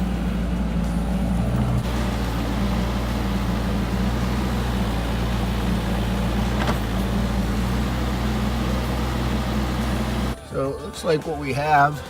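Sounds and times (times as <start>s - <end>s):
engine droning: 0.0s - 10.4s.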